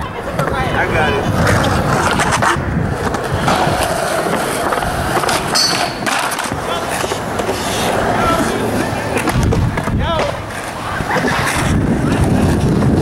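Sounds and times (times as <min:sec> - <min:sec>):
skateboard clacks: 0:00.0 - 0:13.0
skateboard wheels rolling on concrete: 0:00.0 - 0:13.0.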